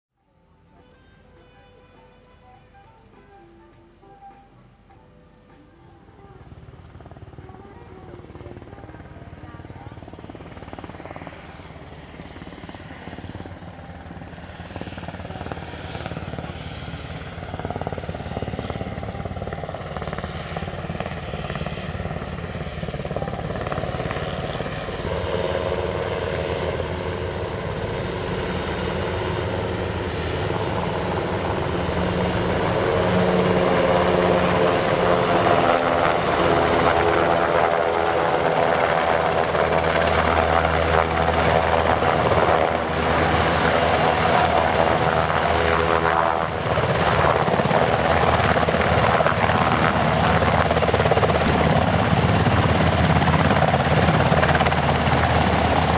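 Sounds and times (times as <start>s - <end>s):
helicopter engines and rotor: 4.7s - 55.9s.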